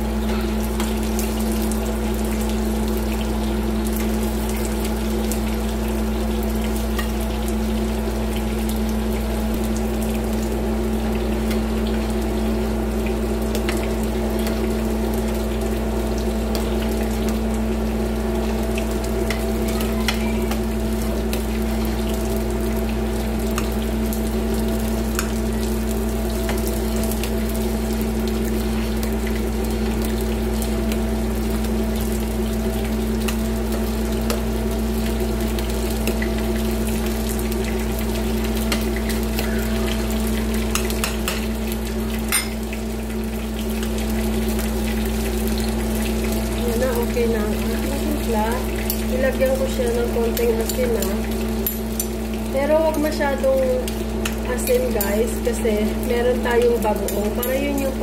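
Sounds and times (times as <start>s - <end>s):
meat sizzling in oil: 0.0s - 58.0s.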